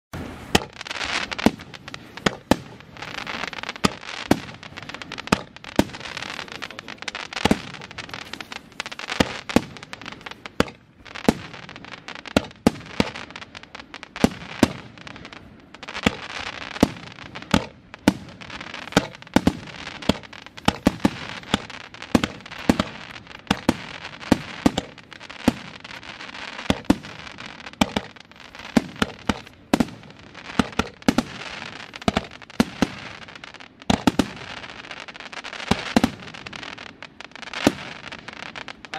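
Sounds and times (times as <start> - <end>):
firework bangs: 0.2 - 38.9
firework crackling: 0.2 - 38.9.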